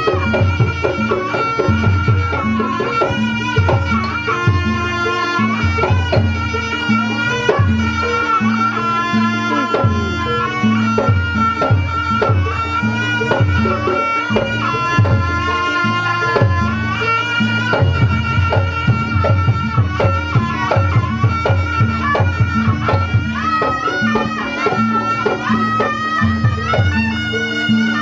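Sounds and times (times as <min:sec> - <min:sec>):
hand drum patterns: 0:00.0 - 0:28.0.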